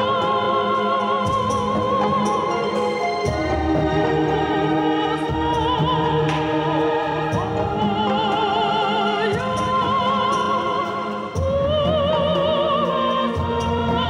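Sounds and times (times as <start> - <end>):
low musical accompaniment: 0.0 - 14.0
operatic singing: 0.0 - 14.0.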